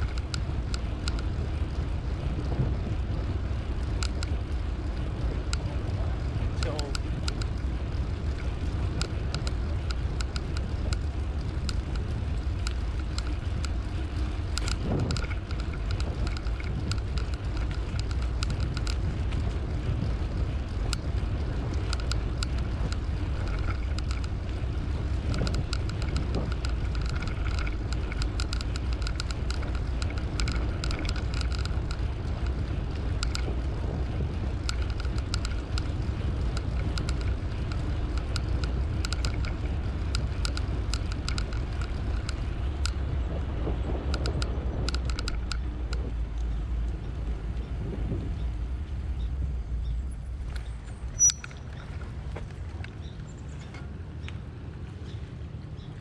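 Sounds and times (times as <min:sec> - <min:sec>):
bicycle tyre rolling: 0:00.0 - 0:56.0
bike clicks and rattles: 0:00.0 - 0:56.0
wind buffeting microphone: 0:00.0 - 0:56.0.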